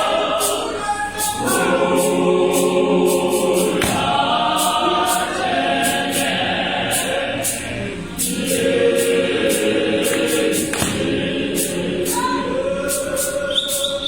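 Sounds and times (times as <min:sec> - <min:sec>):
choir singing a hymn in harmony: 0:00.0 - 0:14.0
high ticking percussion beat: 0:00.0 - 0:14.0.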